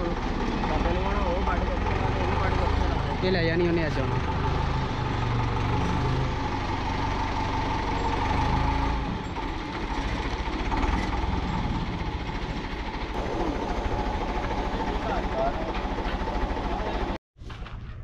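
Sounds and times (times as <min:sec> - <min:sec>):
forklift engine running: 0:00.0 - 0:17.2.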